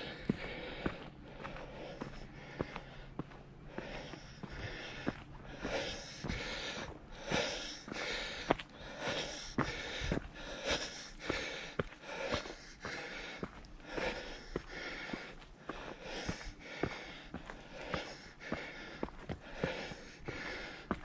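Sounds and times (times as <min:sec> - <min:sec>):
footsteps on rocks: 0:00.0 - 0:21.0
person breathing hard: 0:00.0 - 0:21.0.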